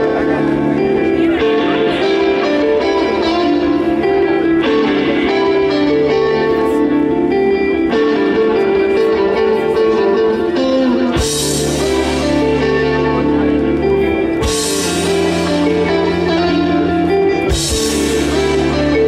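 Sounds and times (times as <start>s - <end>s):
psychedelic rock band playing: 0.0s - 19.0s.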